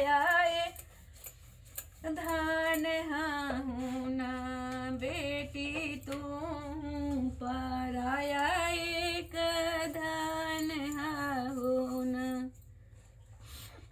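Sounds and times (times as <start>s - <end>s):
woman singing folk song: 0.0s - 0.9s, 2.0s - 12.6s.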